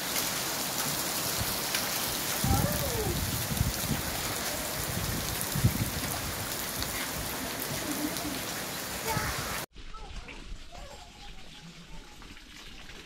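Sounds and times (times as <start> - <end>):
steady rain on wet ground: 0.0 - 13.0.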